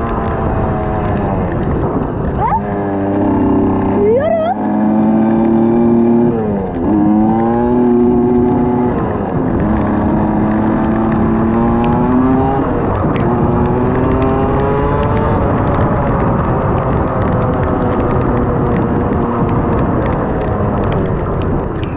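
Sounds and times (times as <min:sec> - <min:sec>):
road noise: 0:00.0 - 0:21.9
vehicle engine accelerating: 0:00.0 - 0:21.9.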